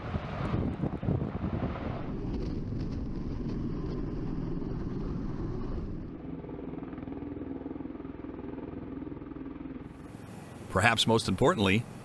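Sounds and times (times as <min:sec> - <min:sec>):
tiltrotor aircraft hovering: 0:00.0 - 0:12.0.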